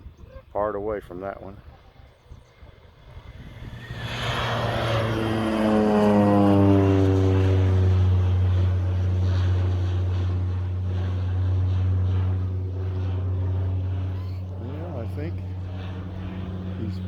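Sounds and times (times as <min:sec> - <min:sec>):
propeller airplane passing low: 0:00.0 - 0:17.0.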